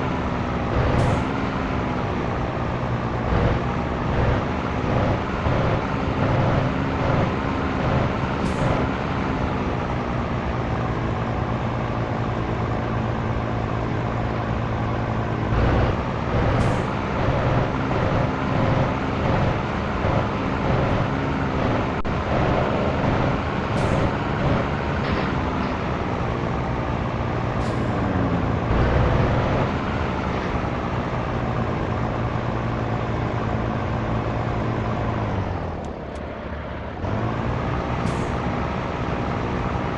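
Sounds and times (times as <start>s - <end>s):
truck diesel engine driving: 0.0s - 39.9s.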